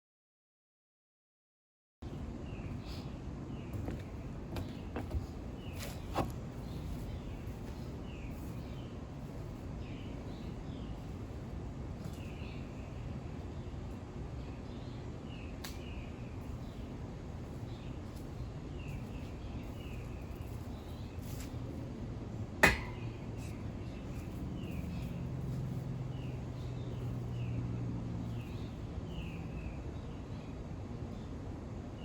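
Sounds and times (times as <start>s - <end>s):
bird chirping: 2.1s - 11.4s, 12.0s - 21.8s, 22.6s - 32.0s.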